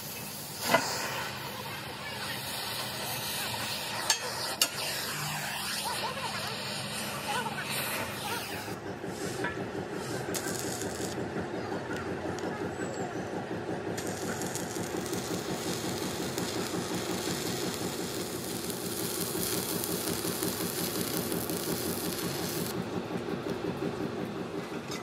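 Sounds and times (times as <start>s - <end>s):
welding arc crackling and sizzling: 0.0s - 8.8s, 9.4s - 11.2s, 13.9s - 23.9s
rhythmic machine drone: 4.1s - 25.0s.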